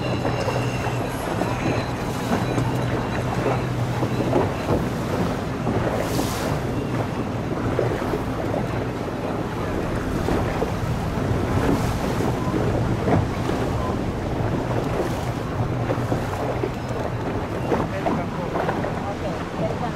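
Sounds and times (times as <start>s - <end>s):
boat engine running: 0.0s - 19.9s
rushing water: 0.0s - 19.9s
wind buffeting microphone: 0.0s - 19.9s.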